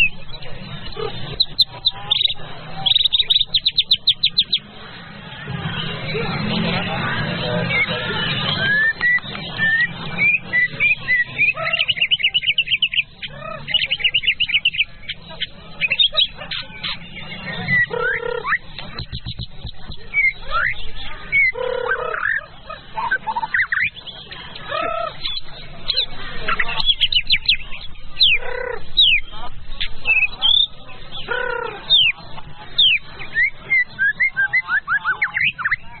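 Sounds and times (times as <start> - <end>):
bird rapid repeated chirps: 0.0 - 5.0, 7.2 - 36.0
bird singing whistled notes: 1.4 - 4.7, 7.6 - 24.3, 24.9 - 32.2, 32.8 - 36.0.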